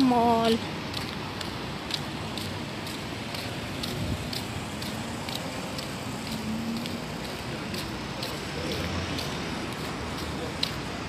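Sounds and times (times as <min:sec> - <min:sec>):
street hiss and hum: 0:00.0 - 0:11.0
footsteps walking: 0:00.8 - 0:11.0.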